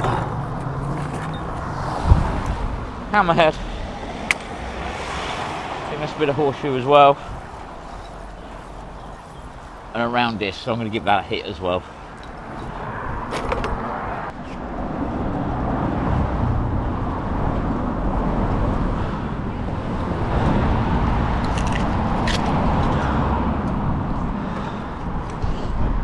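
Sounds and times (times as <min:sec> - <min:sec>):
road traffic passing: 0:00.0 - 0:25.2.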